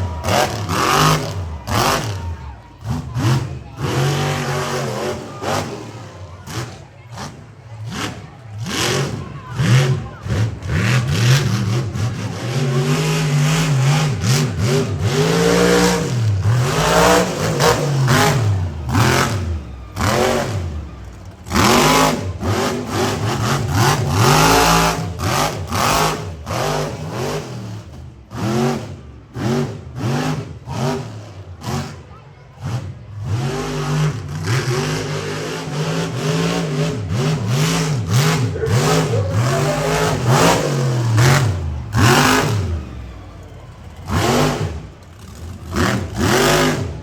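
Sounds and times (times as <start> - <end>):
monster truck engine revving: 0.0 - 47.0.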